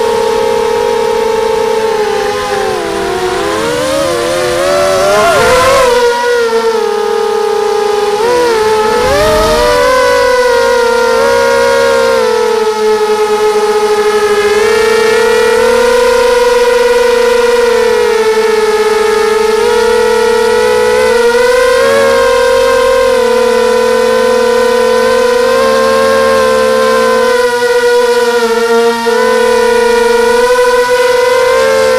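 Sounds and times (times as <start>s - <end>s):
quadcopter motors whining: 0.0s - 31.9s.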